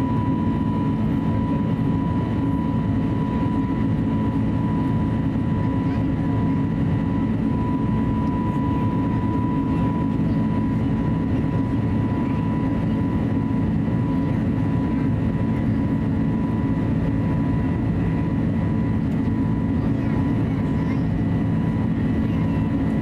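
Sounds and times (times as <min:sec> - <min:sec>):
aircraft cabin engine roar: 0:00.0 - 0:23.0.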